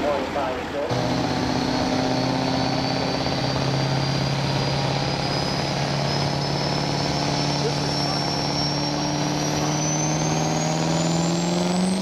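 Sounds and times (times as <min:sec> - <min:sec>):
diesel engine running hard: 0:00.0 - 0:12.0
high turbo whistle: 0:00.9 - 0:12.0.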